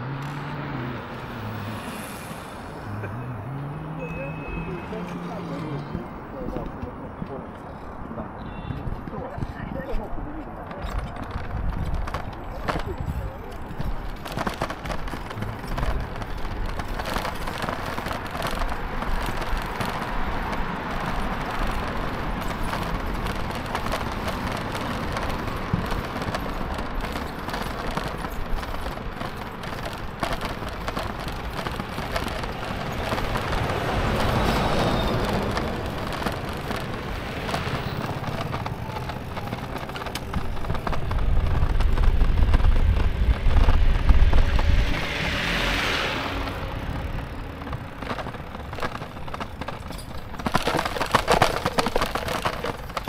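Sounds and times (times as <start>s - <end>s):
traffic noise: 0.0s - 53.0s
wind and road noise: 0.0s - 53.0s
low wind buffeting: 5.1s - 53.0s.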